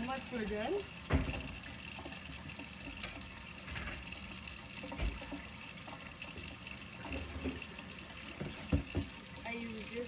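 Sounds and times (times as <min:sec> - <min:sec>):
tap running into sink: 0:00.0 - 0:09.5.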